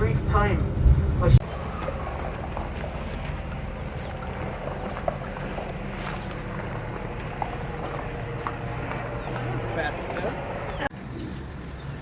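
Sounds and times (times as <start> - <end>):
vehicle rumble from on board: 0.0 - 11.9.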